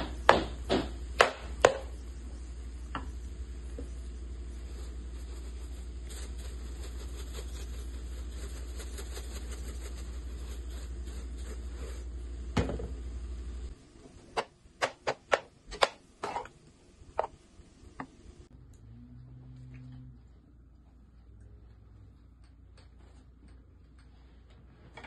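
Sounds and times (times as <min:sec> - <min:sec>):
low hum: 0:00.0 - 0:14.3, 0:16.6 - 0:24.8.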